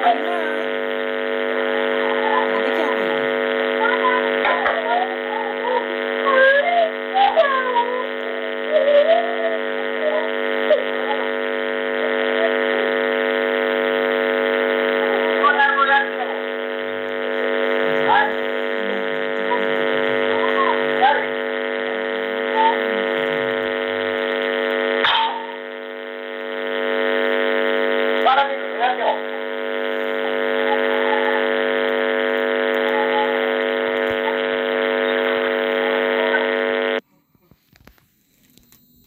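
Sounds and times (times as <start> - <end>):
steady electrical buzz: 0.0 - 39.0.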